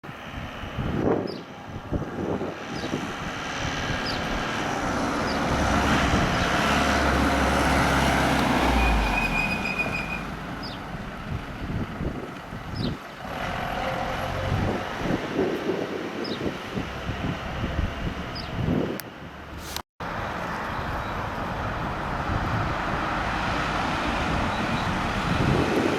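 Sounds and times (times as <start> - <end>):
fire truck driving past: 0.1 - 25.9.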